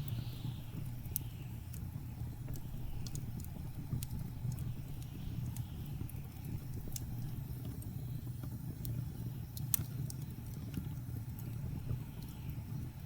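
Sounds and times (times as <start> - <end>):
sharp pops of fire: 0.0 - 12.9
low rumble of blizzard wind: 0.0 - 13.0
wood fire crackling: 0.0 - 13.0.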